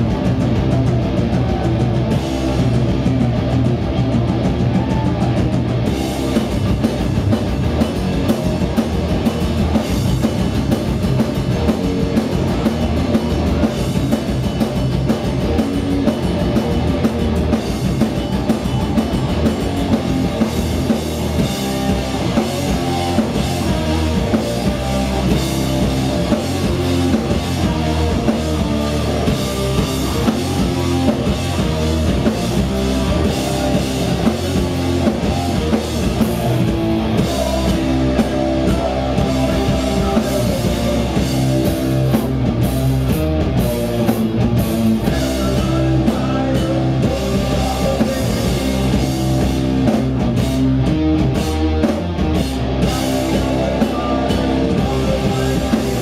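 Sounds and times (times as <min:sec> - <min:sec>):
heavy metal band playing: 0:00.0 - 0:56.0.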